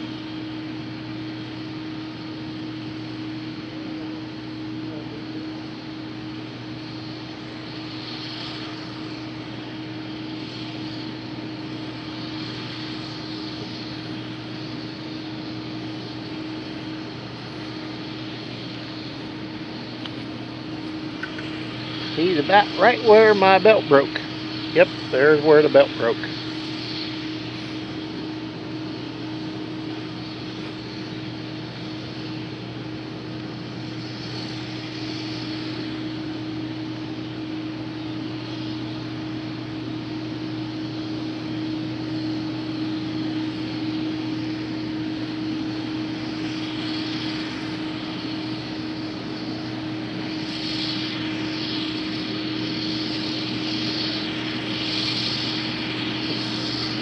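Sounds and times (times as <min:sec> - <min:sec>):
combine harvester engine drone: 0:00.0 - 0:57.0
steady hum: 0:00.0 - 0:57.0.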